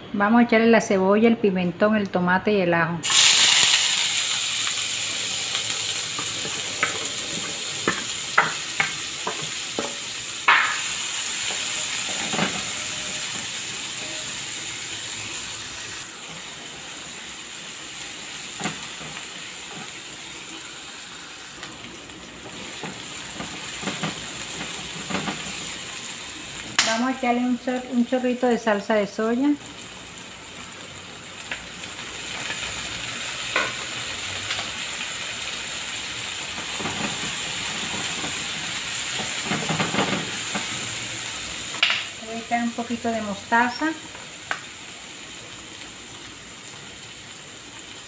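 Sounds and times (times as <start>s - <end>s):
vegetables sizzling in hot oil: 3.0s - 48.0s.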